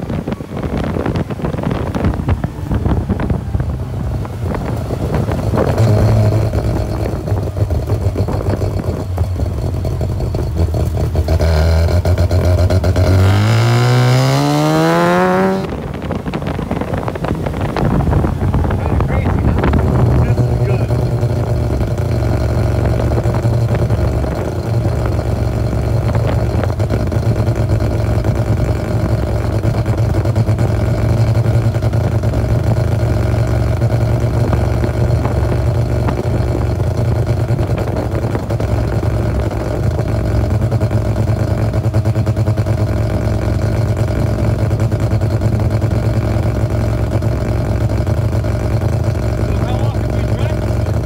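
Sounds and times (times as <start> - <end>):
car engine running: 0.0 - 51.0.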